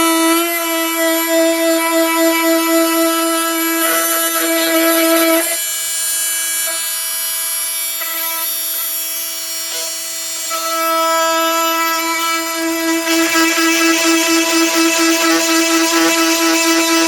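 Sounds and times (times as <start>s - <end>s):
oscillating multi-tool buzzing: 0.0s - 17.0s.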